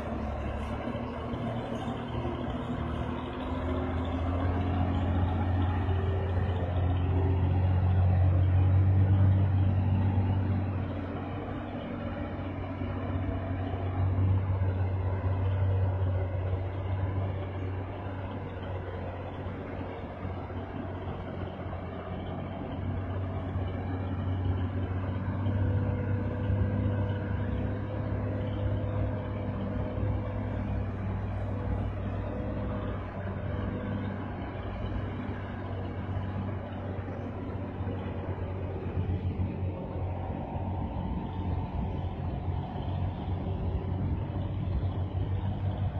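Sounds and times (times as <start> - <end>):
truck engine droning: 0.0 - 45.9.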